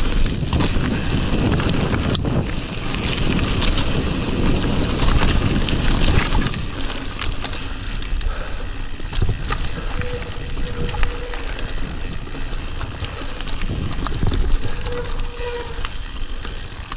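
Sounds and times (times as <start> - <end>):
bike rattling clicks: 0.0 - 16.9
tyres rolling over gravel: 0.0 - 16.9
wind buffeting microphone: 0.0 - 16.9.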